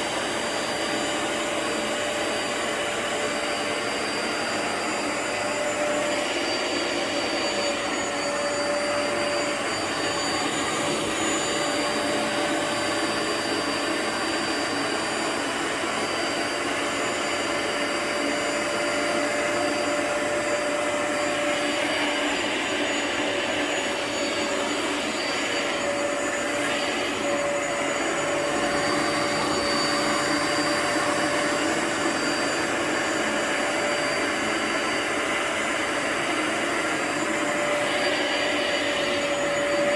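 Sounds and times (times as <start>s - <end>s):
vacuum motor whining: 0.0s - 39.9s.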